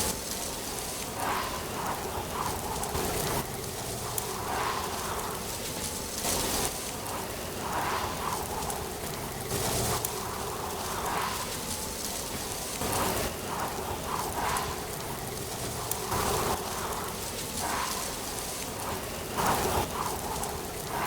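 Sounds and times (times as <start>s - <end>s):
rustling leaves: 0.0s - 21.0s
wind: 0.0s - 21.0s.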